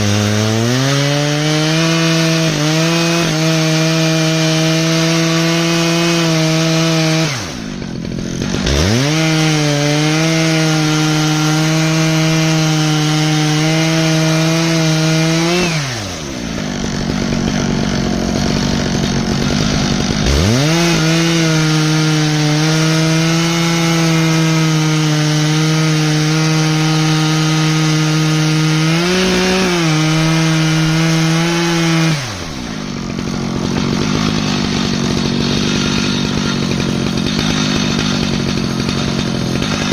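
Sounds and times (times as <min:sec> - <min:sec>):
chainsaw milling a log: 0:00.0 - 0:39.9.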